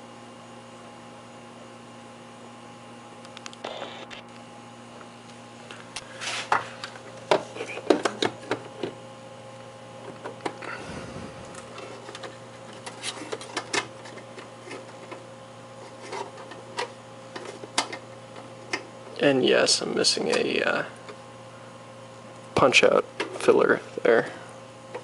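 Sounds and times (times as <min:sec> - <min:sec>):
steady electric hum: 0:00.0 - 0:25.0.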